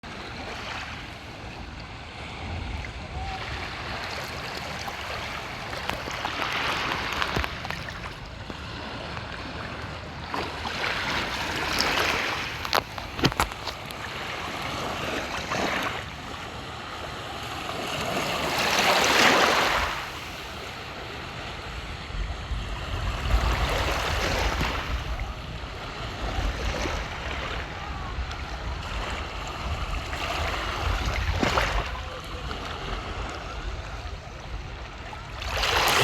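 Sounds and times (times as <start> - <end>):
waves washing at shore: 0.0 - 36.0.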